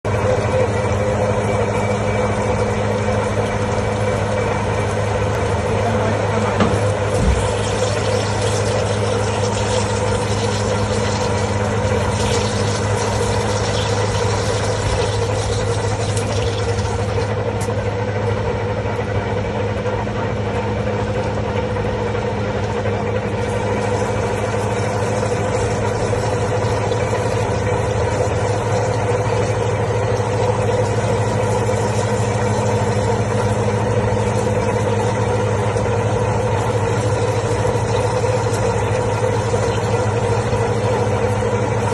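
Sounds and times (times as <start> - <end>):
lathe machine hum: 0.0 - 41.9.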